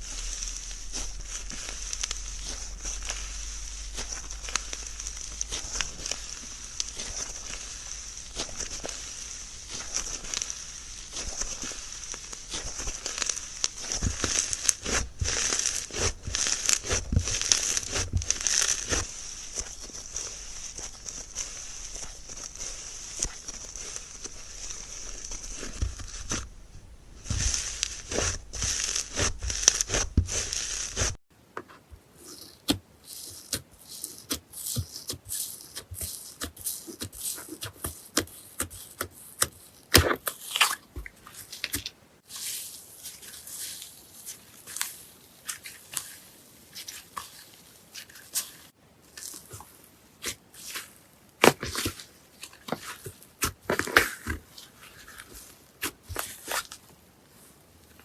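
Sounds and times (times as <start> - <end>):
slime squelching and crackling: 0.0 - 31.2, 32.2 - 58.0.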